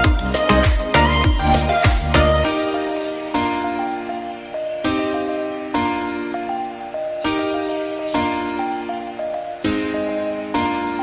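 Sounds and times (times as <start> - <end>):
background music chords and melody: 0.0 - 11.0.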